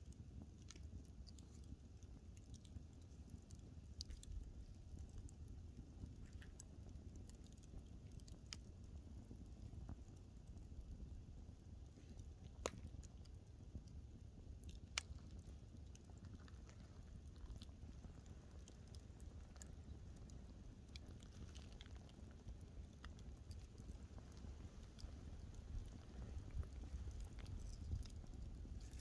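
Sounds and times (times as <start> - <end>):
low rumble of fire: 0.0 - 29.0
wood fire crackling: 0.0 - 29.0.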